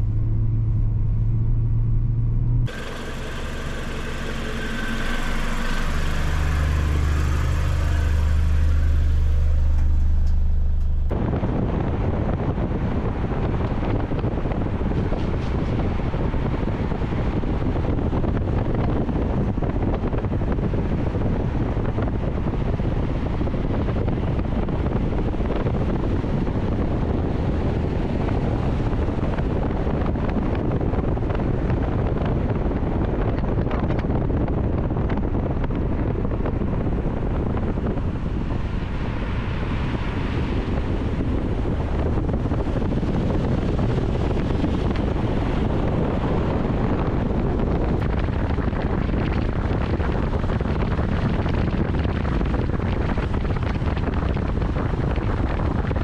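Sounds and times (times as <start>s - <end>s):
road and tyre rumble: 0.0s - 56.0s
wind noise: 0.0s - 56.0s.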